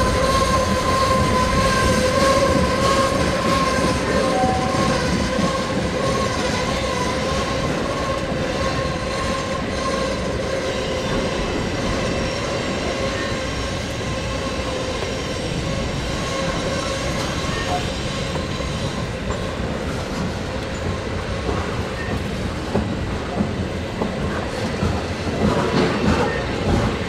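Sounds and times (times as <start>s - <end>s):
train wheels squealing: 0.0s - 22.5s, 25.6s - 27.0s
freight train rumbling: 0.0s - 27.0s.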